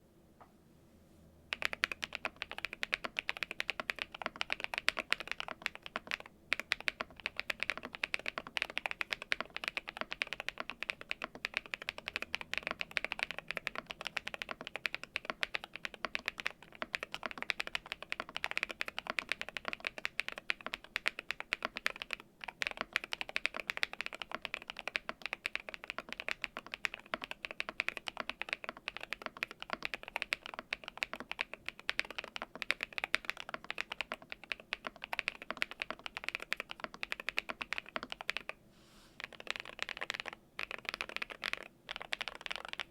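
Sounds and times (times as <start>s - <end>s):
fast typing on mechanical keyboard: 1.5s - 38.6s, 39.2s - 42.9s.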